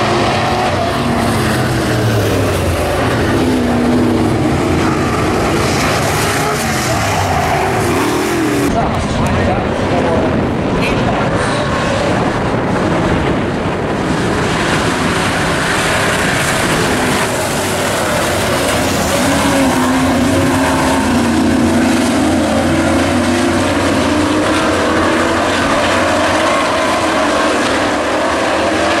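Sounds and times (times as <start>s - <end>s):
race truck engines droning: 0.0s - 29.0s.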